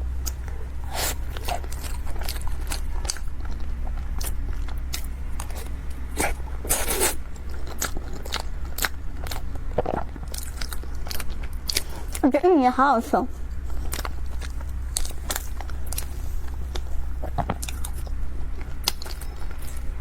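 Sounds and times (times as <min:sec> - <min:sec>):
low hum: 0:00.0 - 0:20.0
wet chewing and mouth smacks: 0:00.1 - 0:12.2, 0:13.4 - 0:20.0.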